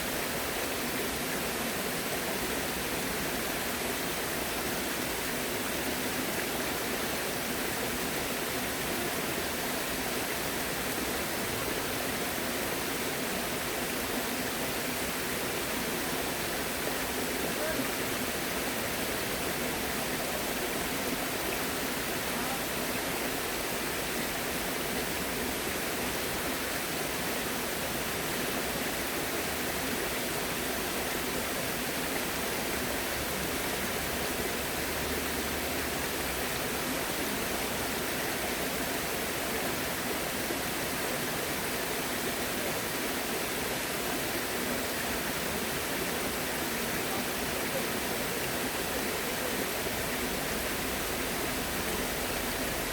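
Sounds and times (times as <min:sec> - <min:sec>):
flowing water rushing: 0:00.0 - 0:52.9.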